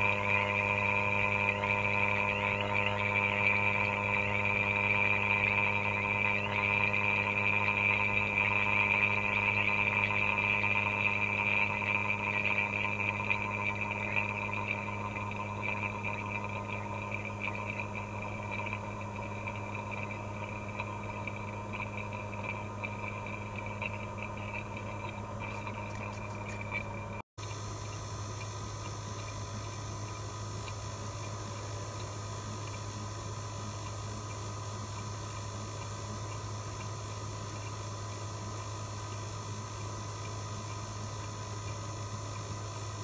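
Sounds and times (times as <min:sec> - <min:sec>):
vacuum pump droning hum: 0:00.0 - 0:43.0.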